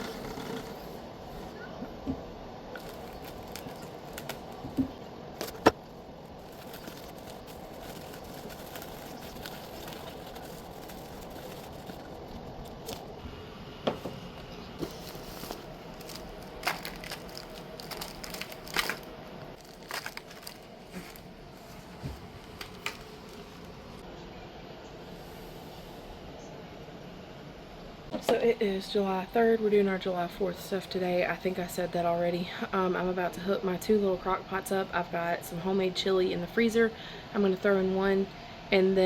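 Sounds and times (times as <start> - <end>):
faint steady background noise: 0.0 - 39.0.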